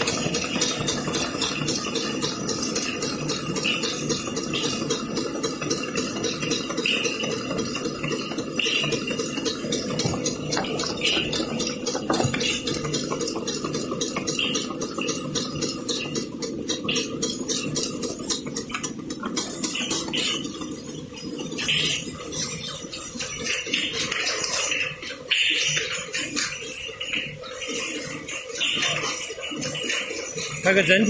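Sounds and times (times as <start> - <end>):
cartoning machine clattering: 0.0 - 31.0
glass bottles clinking: 0.0 - 31.0
machine hum: 0.0 - 31.0.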